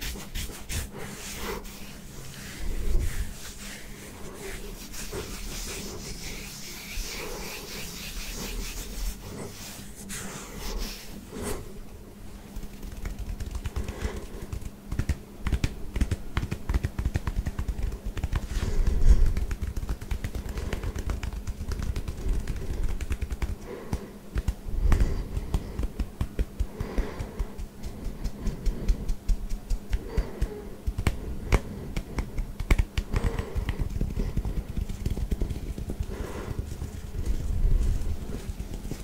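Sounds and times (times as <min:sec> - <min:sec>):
fingertips scratching short hair: 0:00.0 - 0:11.7, 0:12.5 - 0:39.0.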